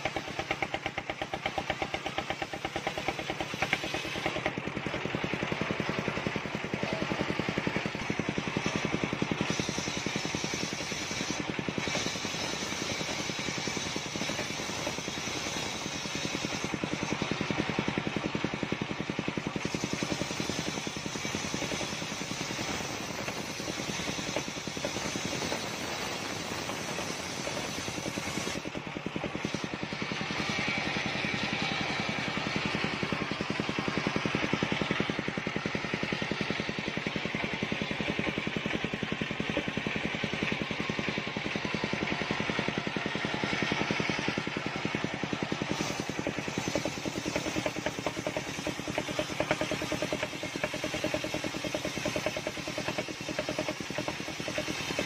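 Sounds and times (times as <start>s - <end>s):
circular saw cutting wood: 0.0s - 55.0s
saw machine drone: 0.0s - 55.0s.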